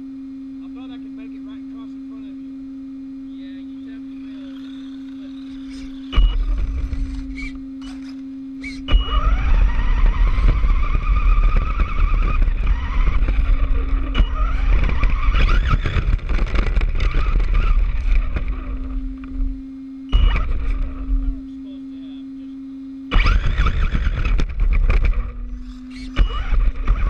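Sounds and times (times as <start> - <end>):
high electric motor whine: 0.0 - 27.0
rc car rumbling over ground: 3.3 - 22.4, 23.1 - 27.0.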